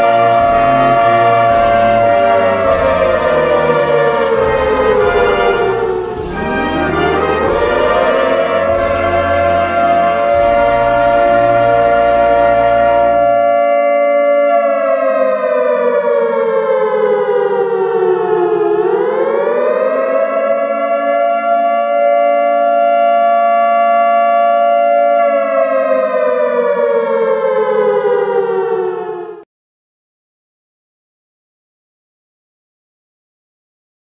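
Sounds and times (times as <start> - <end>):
civil defence siren wailing: 0.0 - 29.5.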